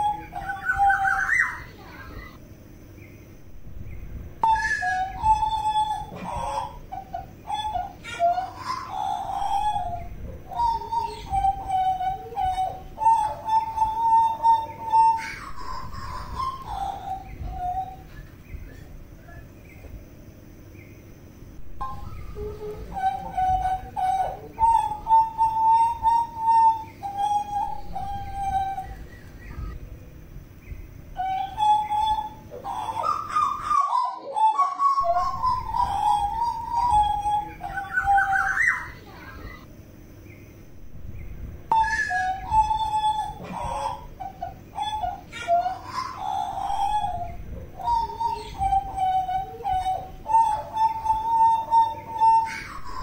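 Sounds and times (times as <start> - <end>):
bird whistling notes: 0.0 - 2.4, 3.0 - 19.9, 20.7 - 29.9, 30.5 - 39.6, 40.3 - 53.0.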